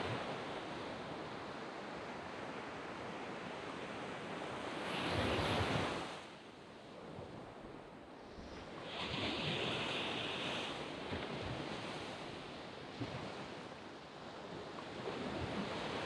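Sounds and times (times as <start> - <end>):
waves washing on sandy beach: 0.0 - 16.0.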